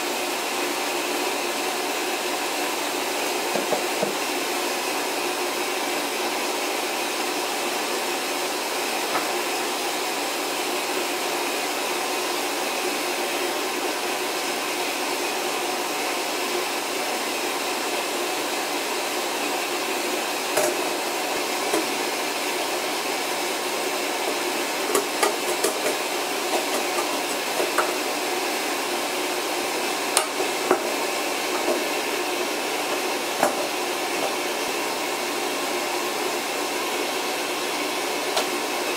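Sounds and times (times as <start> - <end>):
water softener rushing: 0.0 - 38.9.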